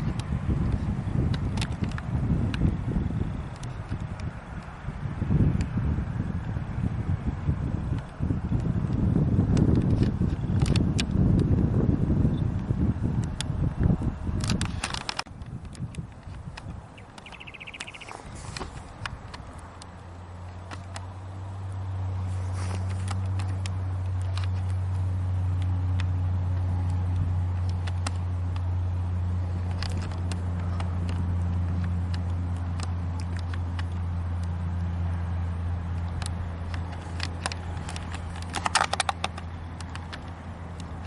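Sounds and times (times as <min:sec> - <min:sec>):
clicks and crackles: 0:00.0 - 0:02.8, 0:03.4 - 0:04.8, 0:07.9 - 0:11.6, 0:12.5 - 0:21.6, 0:22.2 - 0:28.8, 0:29.4 - 0:41.0
aircraft engines droning: 0:00.0 - 0:41.0.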